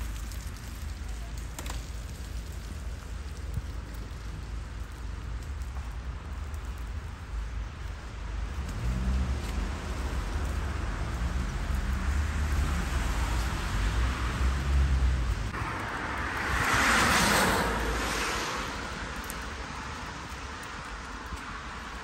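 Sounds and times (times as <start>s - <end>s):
rain-like hiss: 0.0s - 22.0s.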